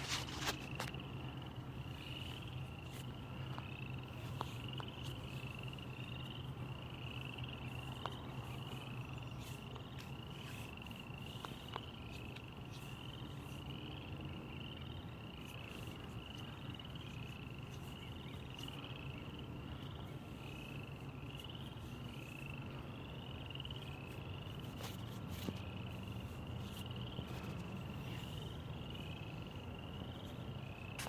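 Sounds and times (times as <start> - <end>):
frogs trilling: 0.0 - 31.0.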